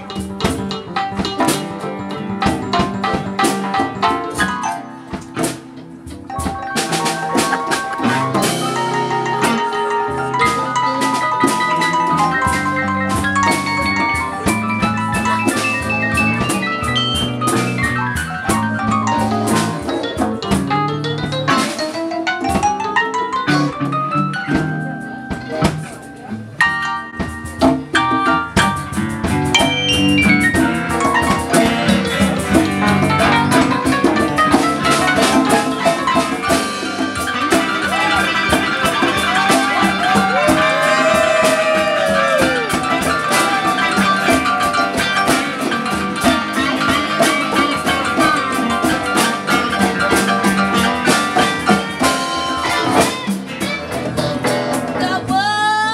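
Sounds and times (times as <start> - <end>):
conga drums and percussion: 0.0 - 55.9
electric guitar: 0.0 - 55.9
keyboard: 0.0 - 55.9.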